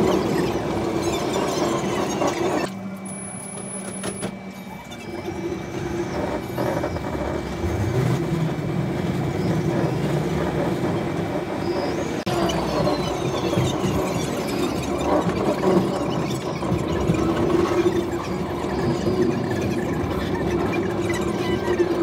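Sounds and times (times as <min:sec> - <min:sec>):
street traffic noise: 0:00.0 - 0:22.0
traction motor whine rising: 0:00.0 - 0:22.0
tram running rumble: 0:00.0 - 0:22.0.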